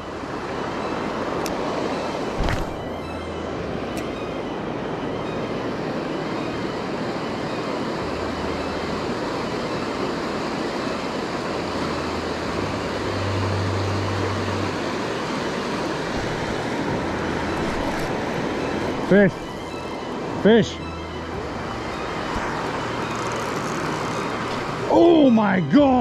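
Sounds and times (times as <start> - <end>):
river water rushing over rapids: 4.6 - 26.0.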